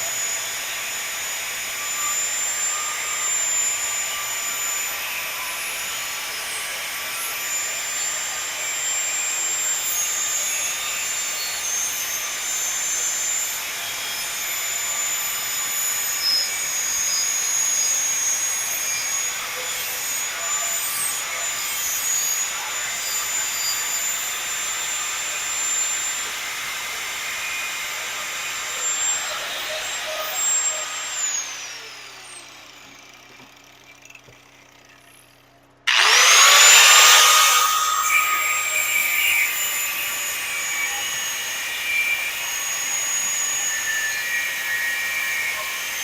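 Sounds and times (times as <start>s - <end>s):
angle grinder cutting steel: 0.0s - 35.2s, 35.9s - 46.0s.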